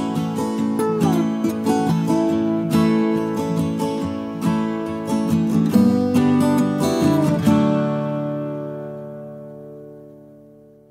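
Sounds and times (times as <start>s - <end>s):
strummed acoustic guitar chord: 0.0s - 10.8s.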